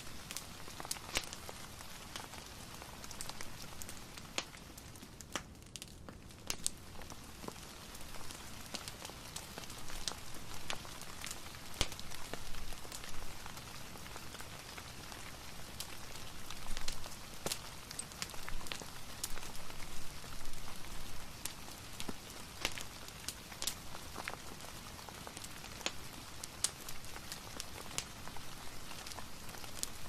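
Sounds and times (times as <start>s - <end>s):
fireplace crackling: 0.0s - 30.0s
soft rain: 0.0s - 30.0s.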